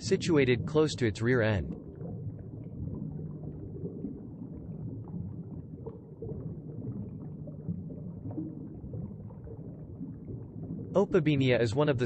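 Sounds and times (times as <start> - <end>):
underwater low rumble: 0.0 - 12.0.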